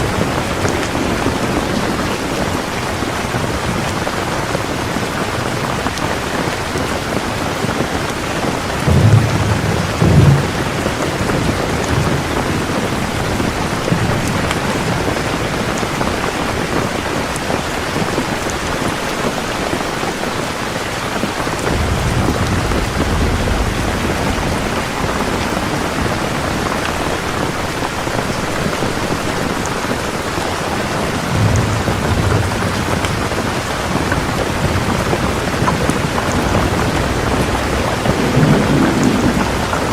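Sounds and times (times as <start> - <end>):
thunder rumbling: 0.0 - 16.9, 21.3 - 39.9
heavy rain hissing: 0.0 - 39.9.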